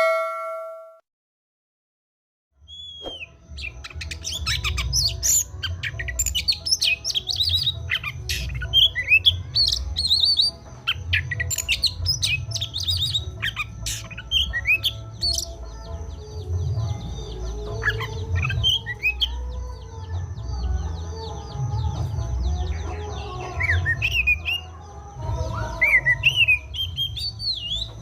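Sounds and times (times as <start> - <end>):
magpie-robin singing: 2.7 - 28.0.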